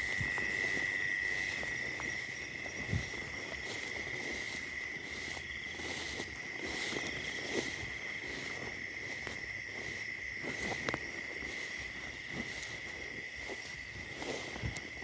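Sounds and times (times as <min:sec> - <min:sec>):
footsteps through dry vegetation: 0:00.0 - 0:15.0
high-pitched insect drone: 0:00.0 - 0:15.0.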